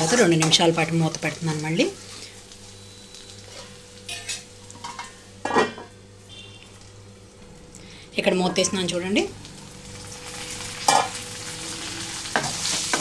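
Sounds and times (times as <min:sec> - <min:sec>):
low frying sizzle: 0:00.0 - 0:13.0.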